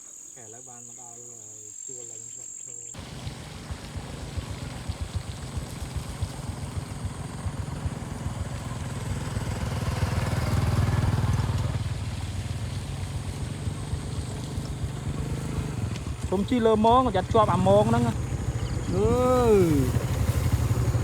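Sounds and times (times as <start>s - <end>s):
small engine pulsing: 2.9s - 21.0s.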